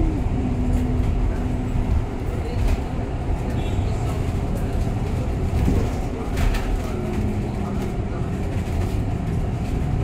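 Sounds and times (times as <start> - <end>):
road and tyre rumble: 0.0 - 10.0.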